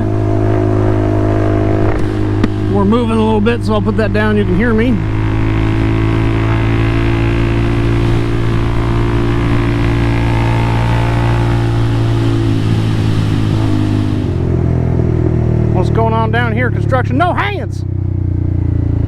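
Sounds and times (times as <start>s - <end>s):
rushing noise: 0.0s - 16.0s
motorcycle engine running: 0.0s - 19.0s.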